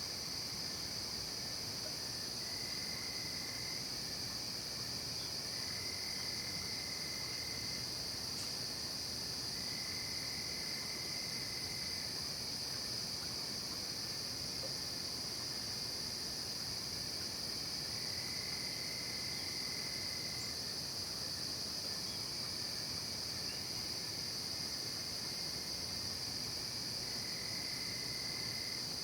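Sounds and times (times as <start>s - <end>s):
lower insect trill: 0.0s - 29.0s.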